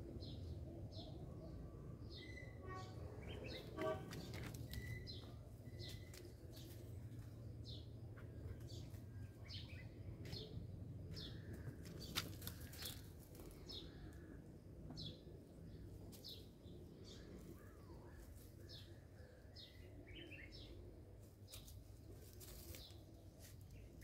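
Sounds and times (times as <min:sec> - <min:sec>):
small birds chirping: 0:02.1 - 0:24.0.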